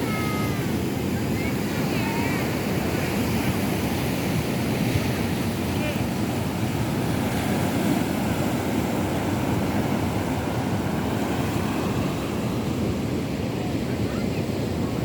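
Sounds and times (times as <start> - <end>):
sea surf rumbling: 0.0 - 15.0.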